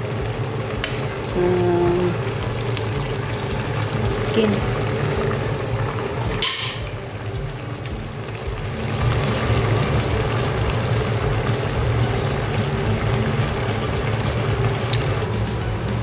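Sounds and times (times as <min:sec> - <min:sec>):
low mechanical hum: 0:00.0 - 0:16.0
pot simmering: 0:00.0 - 0:16.0.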